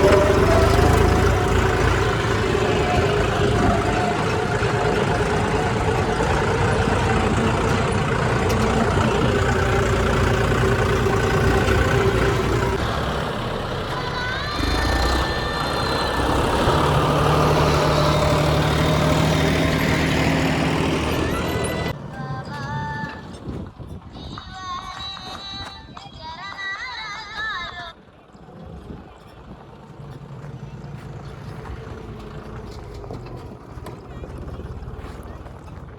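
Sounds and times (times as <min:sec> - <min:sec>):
heavy diesel engine running: 0:00.0 - 0:25.7, 0:27.6 - 0:35.9.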